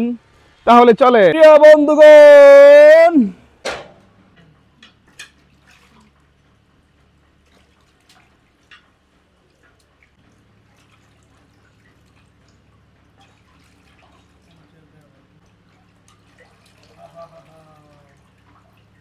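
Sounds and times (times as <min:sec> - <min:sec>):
water splashing and dripping: 0:03.6 - 0:19.0.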